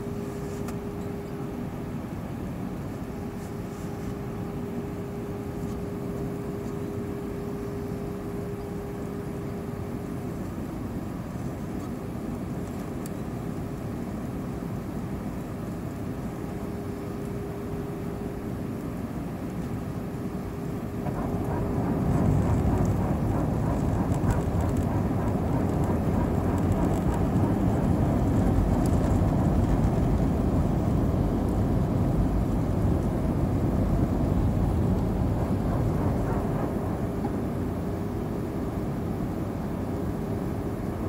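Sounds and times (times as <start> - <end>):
airliner cabin noise: 0.0 - 41.0
steady hum: 0.0 - 41.0.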